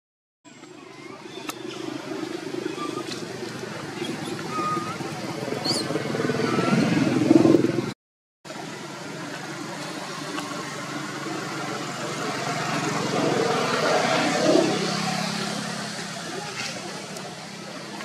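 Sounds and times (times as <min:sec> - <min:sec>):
vehicle engine hum: 0:00.5 - 0:18.0.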